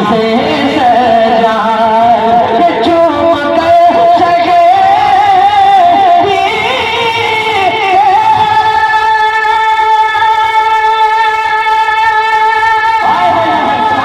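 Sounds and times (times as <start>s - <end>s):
man singing in high voice: 0.0s - 14.0s.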